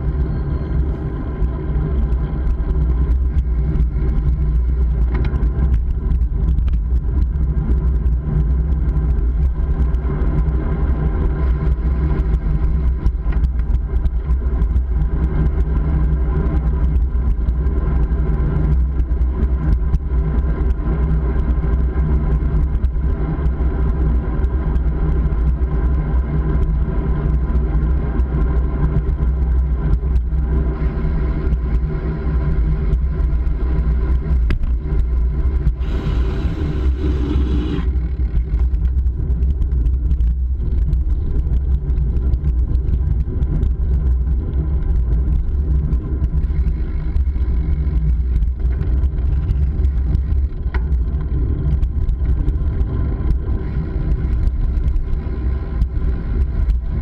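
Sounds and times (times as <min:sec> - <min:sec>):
steady road drone: 0:00.0 - 0:57.0
wind rumble on microphone: 0:00.0 - 0:57.0.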